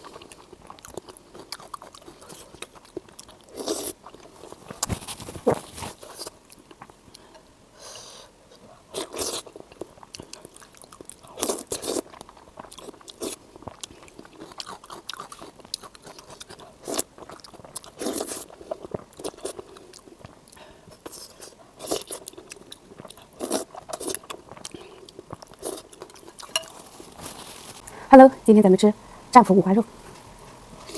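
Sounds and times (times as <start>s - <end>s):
soft chewing: 0.0s - 7.5s, 8.5s - 28.0s.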